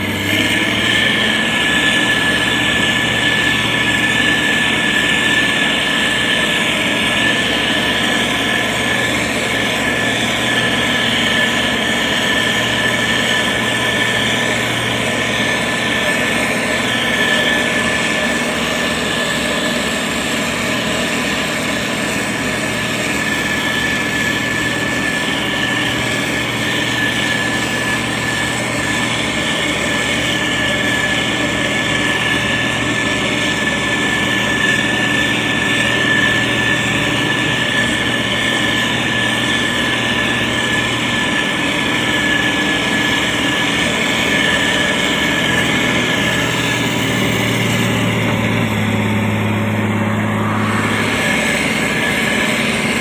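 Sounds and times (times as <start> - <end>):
constant high whine: 0.0 - 53.0
diesel engine running under load: 0.0 - 53.0.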